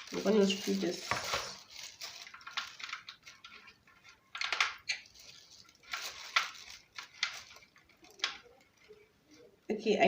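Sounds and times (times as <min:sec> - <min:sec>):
plastic and metal parts scraping: 0:00.0 - 0:09.1.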